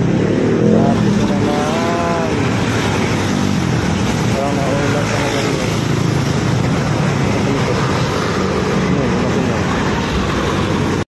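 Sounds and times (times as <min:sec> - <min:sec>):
car engines running: 0:00.0 - 0:11.0
motorcycle engines running: 0:00.0 - 0:11.0.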